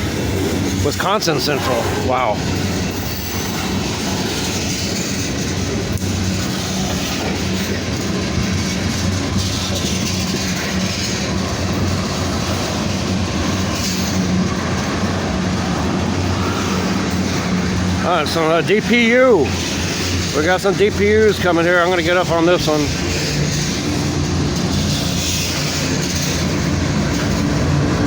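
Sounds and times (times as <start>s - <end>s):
freight train wheels clattering: 0.0s - 28.0s.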